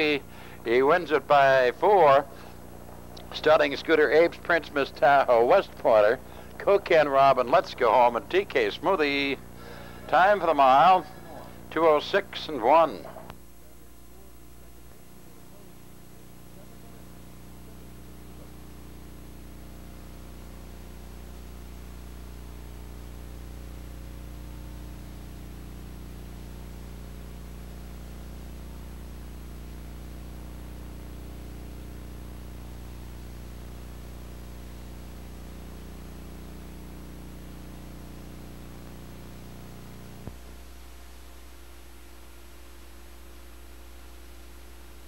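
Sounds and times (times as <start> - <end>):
electrical mains hum: 0.0 - 45.0
tape hiss: 0.0 - 45.0.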